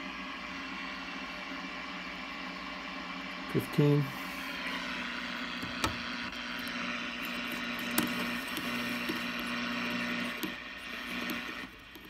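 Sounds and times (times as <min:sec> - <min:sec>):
radio static hiss with hum: 0:00.0 - 0:11.7.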